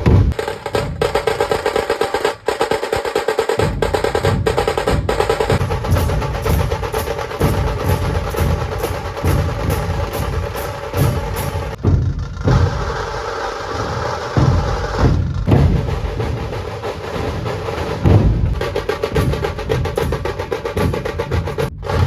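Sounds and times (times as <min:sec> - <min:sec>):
deep drum beats: 0:00.0 - 0:22.0
fast snare drum rolls: 0:00.0 - 0:22.0.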